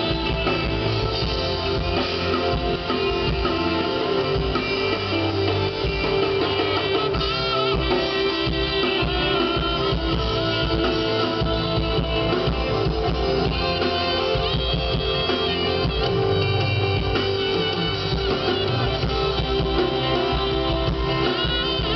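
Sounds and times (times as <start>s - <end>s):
drum kit: 0.0s - 21.9s
guitar: 0.0s - 21.9s.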